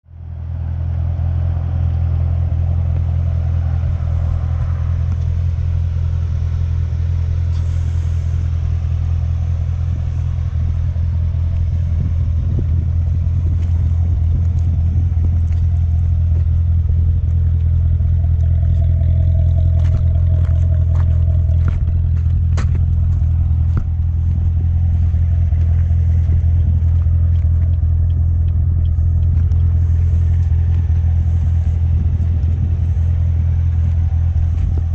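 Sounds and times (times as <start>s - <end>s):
car engine droning: 0.0s - 34.9s.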